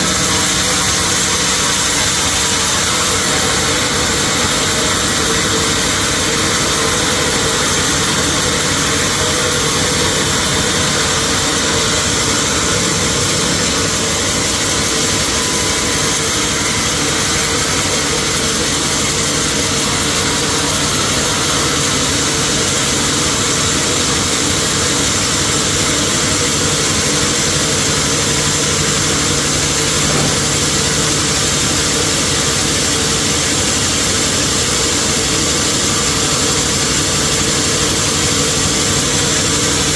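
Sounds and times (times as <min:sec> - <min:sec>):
high machine whine: 0:00.0 - 0:39.9
sawmill machinery drone: 0:00.0 - 0:39.9.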